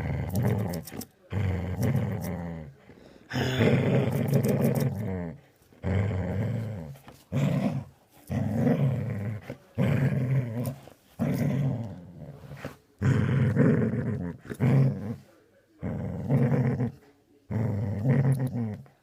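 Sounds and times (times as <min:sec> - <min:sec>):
dog growling: 0:00.0 - 0:15.2, 0:15.8 - 0:19.0.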